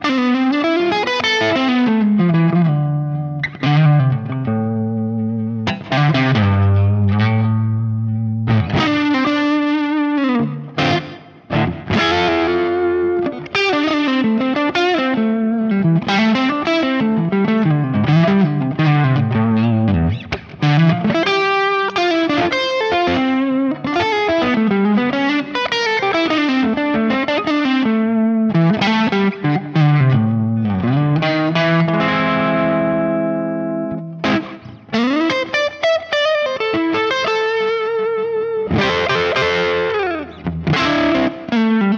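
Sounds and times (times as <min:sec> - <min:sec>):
overdriven electric guitar: 0:00.0 - 0:41.9.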